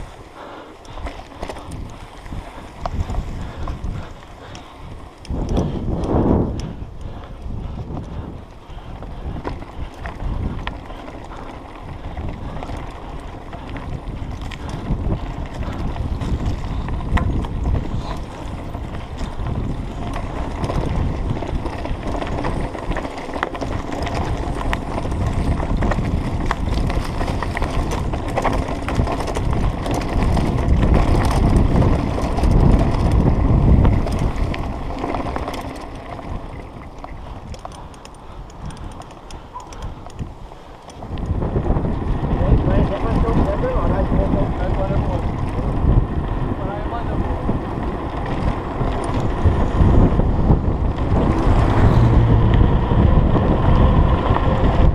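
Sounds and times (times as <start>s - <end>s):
bike clicks and knocks: 0.0s - 42.2s, 47.6s - 54.9s
bike tyres rumbling on dirt: 0.0s - 54.9s
wind buffeting microphone: 0.0s - 54.9s.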